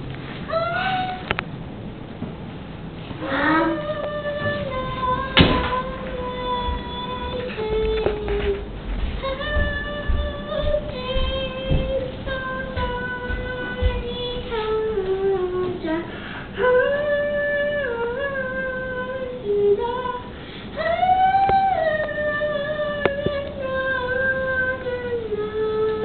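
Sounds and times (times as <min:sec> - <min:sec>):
girl singing: 0:00.4 - 0:01.4, 0:03.1 - 0:26.0.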